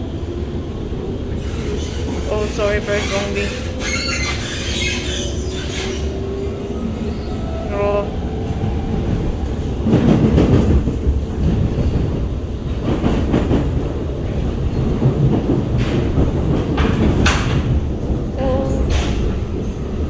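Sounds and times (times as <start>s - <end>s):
train wheel and rail rumble: 0.0s - 20.0s
train carriage clattering rattles: 1.4s - 6.3s, 8.4s - 20.0s.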